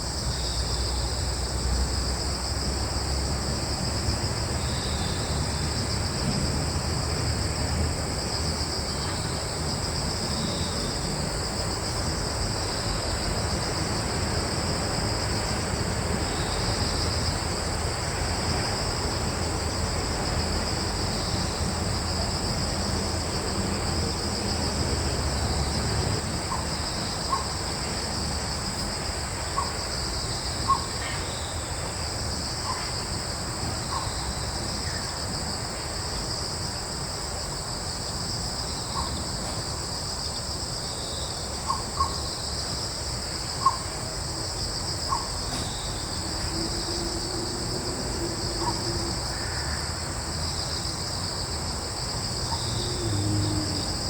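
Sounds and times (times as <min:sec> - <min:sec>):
crickets and insects trilling: 0:00.0 - 0:54.0
low rumble of breeze: 0:00.0 - 0:54.0.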